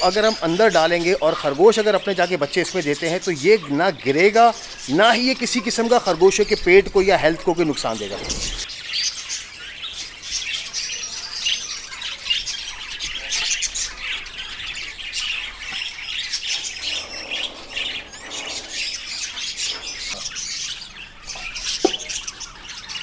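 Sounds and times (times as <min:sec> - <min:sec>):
many birds chirping: 0:00.0 - 0:23.0.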